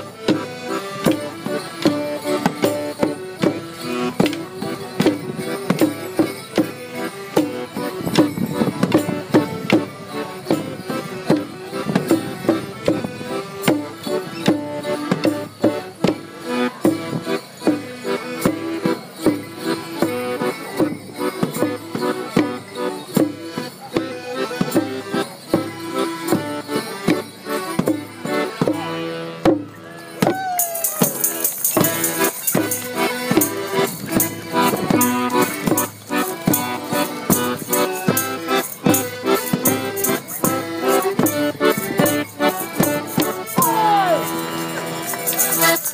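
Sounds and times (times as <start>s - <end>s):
accordion folk dance tune: 0.0s - 45.9s.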